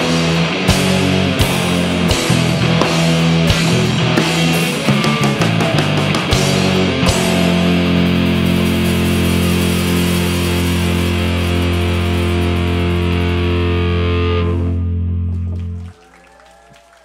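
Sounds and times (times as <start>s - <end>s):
distorted electric guitar chord: 0.0s - 15.4s.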